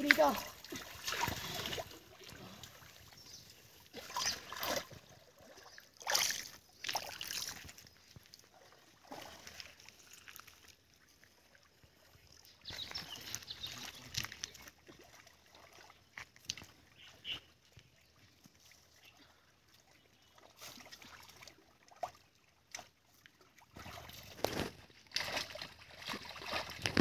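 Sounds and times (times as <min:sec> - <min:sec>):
stream water splashing: 0:00.0 - 0:27.0.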